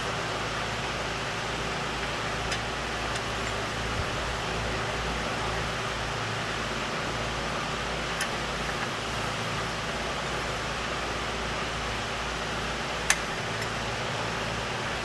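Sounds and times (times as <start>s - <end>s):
fan-like hiss and hum: 0.0s - 15.0s.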